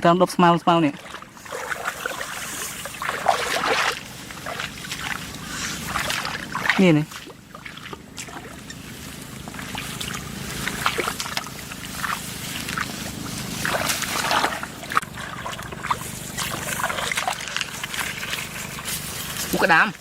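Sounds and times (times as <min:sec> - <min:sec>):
floodwater sloshing and splashing: 0:00.7 - 0:20.0
short splashes and clicks: 0:00.8 - 0:20.0.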